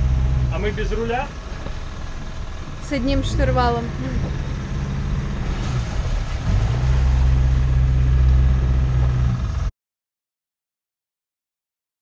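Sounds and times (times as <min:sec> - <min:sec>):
boat engine humming: 0:00.0 - 0:09.7.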